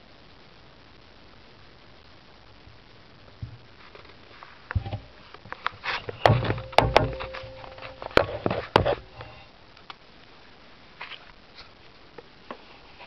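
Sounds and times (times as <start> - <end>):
rustling: 1.6 - 9.8, 10.4 - 13.0.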